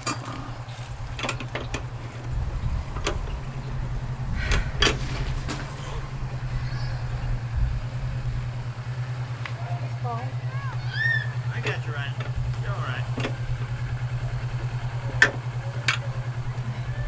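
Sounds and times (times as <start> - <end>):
metal tools clanking: 0.0 - 17.0
steady low hum: 0.0 - 17.0.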